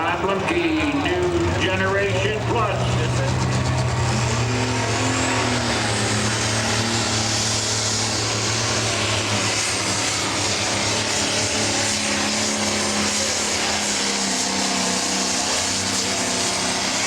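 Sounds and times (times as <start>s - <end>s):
diesel engine at high revs: 0.0s - 17.0s.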